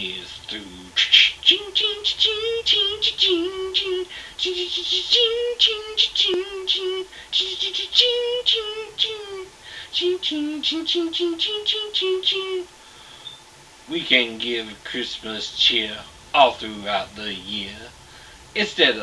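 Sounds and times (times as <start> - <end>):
high-pitched singing voice: 0.0 - 12.7, 13.9 - 17.9.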